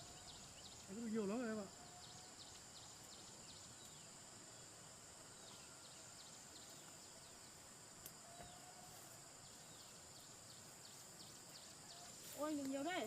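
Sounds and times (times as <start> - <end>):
high insect drone: 0.0 - 13.0
short insect chirps: 0.0 - 13.0.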